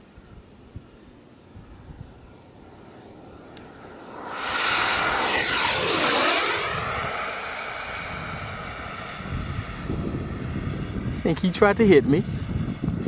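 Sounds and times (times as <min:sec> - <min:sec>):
model jet fan whine: 0:00.0 - 0:13.0.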